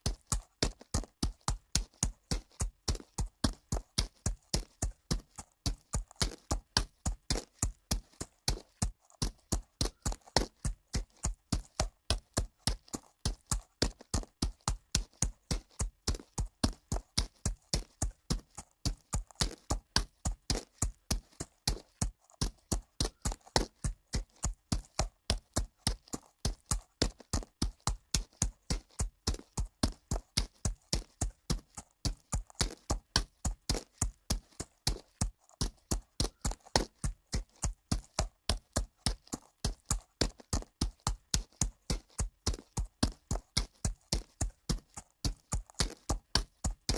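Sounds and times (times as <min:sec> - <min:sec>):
horse hooves walking on dirt: 0:00.0 - 0:46.9.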